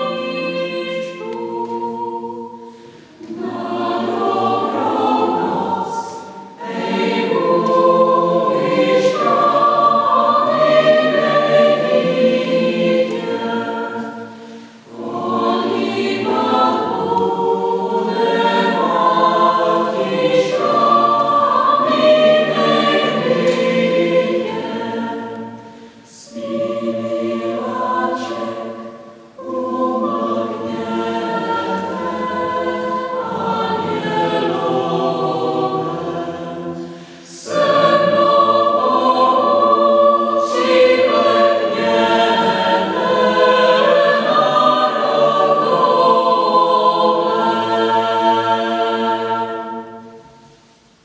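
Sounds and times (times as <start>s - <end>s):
mixed choir singing a cappella: 0.0s - 51.0s.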